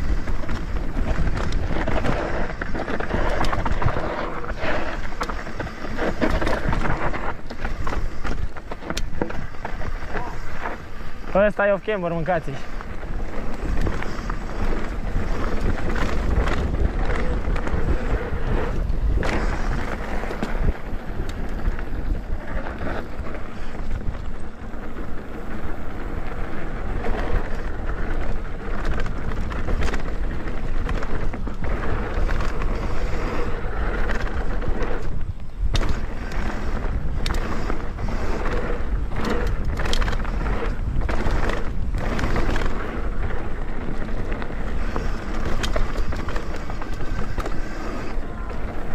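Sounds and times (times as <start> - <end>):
bike knocking and rattling: 0.0 - 48.9
bike tyres rolling over dirt and rocks: 0.0 - 48.9
wind on microphone: 0.0 - 48.9.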